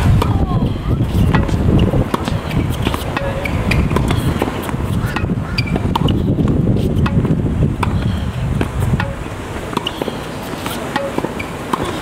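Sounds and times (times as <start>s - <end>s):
wind rumble on microphone: 0.0s - 9.7s
tennis ball struck with rackets: 0.0s - 12.0s.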